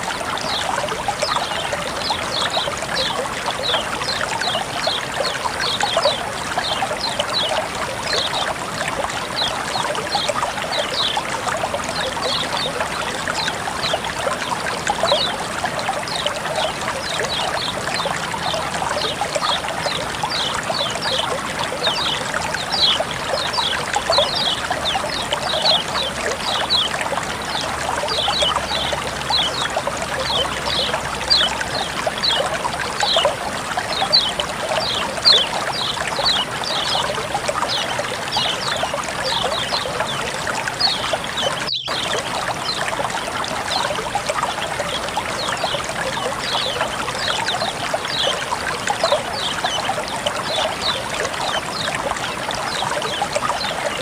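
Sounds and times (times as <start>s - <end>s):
small birds chirping: 0.0s - 54.0s
water running and trickling: 0.0s - 54.0s.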